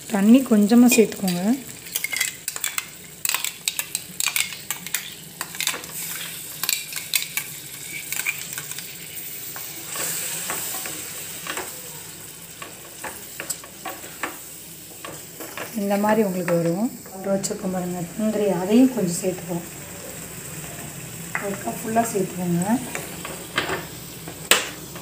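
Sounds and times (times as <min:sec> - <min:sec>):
paste sizzling in hot oil: 0:00.0 - 0:25.0.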